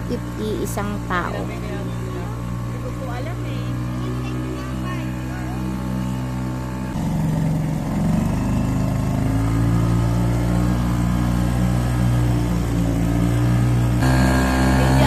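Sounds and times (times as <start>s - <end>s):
motor boat engine droning: 0.0s - 15.0s.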